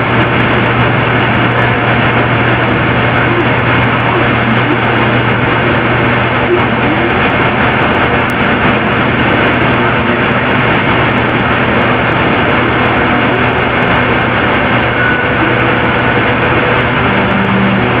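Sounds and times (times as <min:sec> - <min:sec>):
low hum: 0:00.0 - 0:18.0
steady rushing noise: 0:00.0 - 0:18.0.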